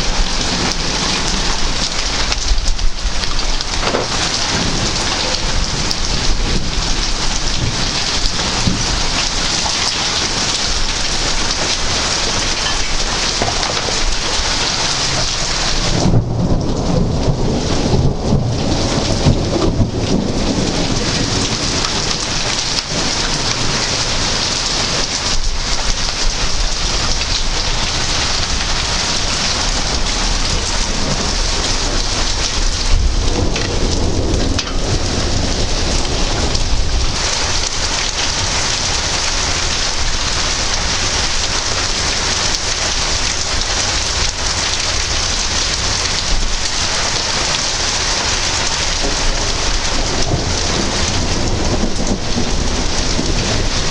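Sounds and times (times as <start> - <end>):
heavy rain falling: 0.0 - 53.9
low thunder rumbles: 0.0 - 53.9.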